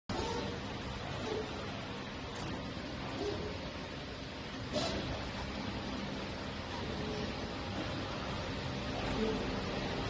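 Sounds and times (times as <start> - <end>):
workshop noise hiss: 0.1 - 10.0.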